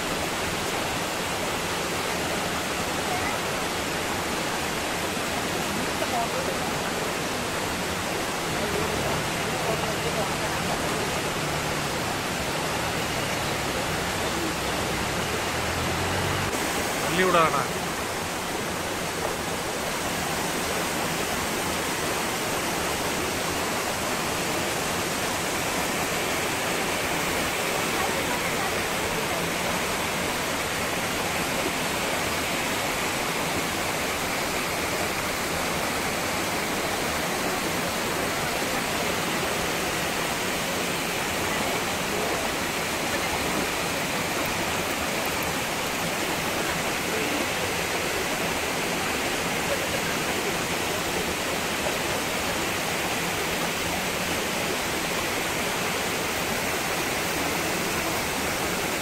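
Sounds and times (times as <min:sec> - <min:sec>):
waterfall and stream rushing over rocks: 0:00.0 - 0:59.0.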